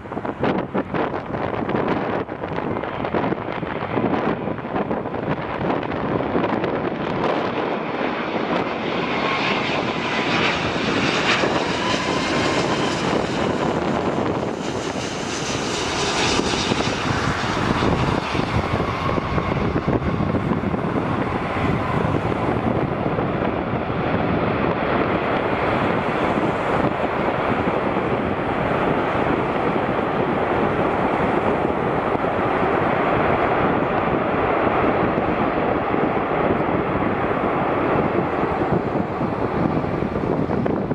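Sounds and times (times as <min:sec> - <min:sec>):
jet engines passing: 0:00.0 - 0:40.9.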